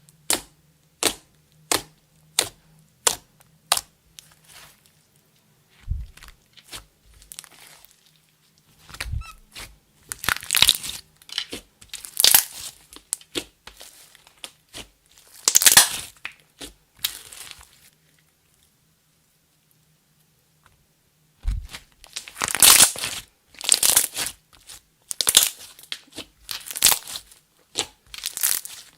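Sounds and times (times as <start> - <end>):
slime squishing by hand: 0.2 - 5.0, 5.7 - 18.0, 21.4 - 28.9.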